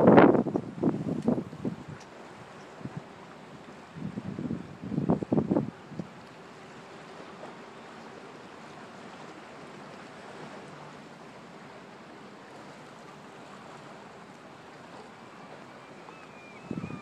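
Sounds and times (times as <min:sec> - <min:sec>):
faint moving water: 0:00.0 - 0:17.0.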